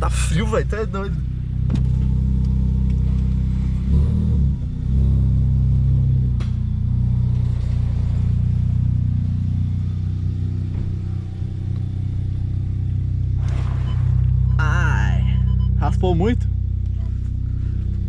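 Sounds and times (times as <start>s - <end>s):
car engine hum from cabin: 0.0s - 18.0s.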